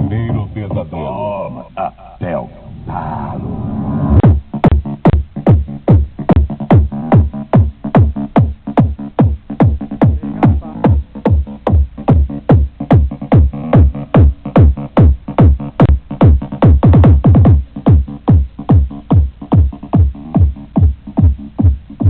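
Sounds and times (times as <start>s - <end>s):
loud electronic dance music: 3.9s - 22.0s
heavy kick drum booming: 4.2s - 22.0s.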